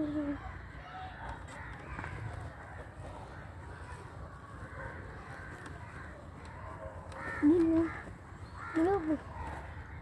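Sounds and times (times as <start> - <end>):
crows cawing faintly: 0.0 - 10.0.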